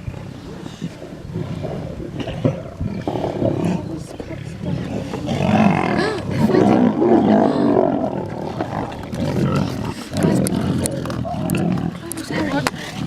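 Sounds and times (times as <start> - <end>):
lions growling and snarling: 0.0 - 13.0.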